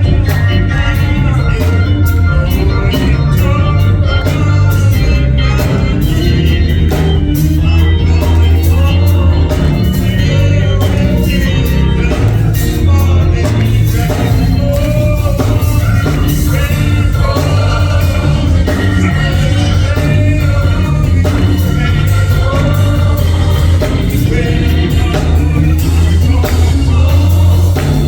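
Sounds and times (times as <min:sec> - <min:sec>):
gospel band playing: 0:00.0 - 0:28.0
steady drum beat: 0:00.0 - 0:28.0
voices singing: 0:00.0 - 0:28.0.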